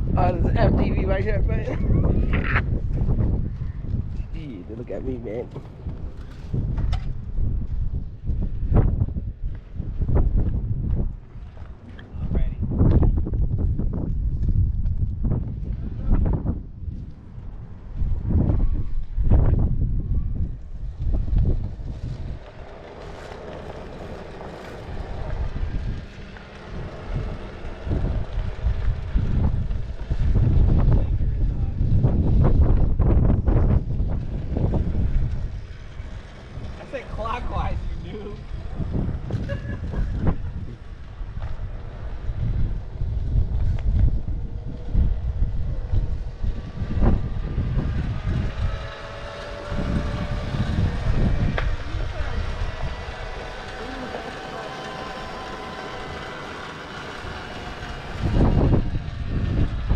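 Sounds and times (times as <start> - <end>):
motorcycle engine rumble: 0.0 - 59.9
wind buffeting microphone: 0.0 - 59.9.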